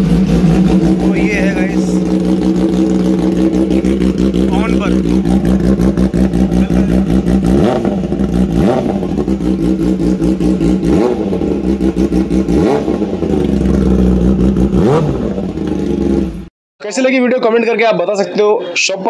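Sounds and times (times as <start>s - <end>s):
motorcycle engine idling and revving: 0.0s - 16.5s.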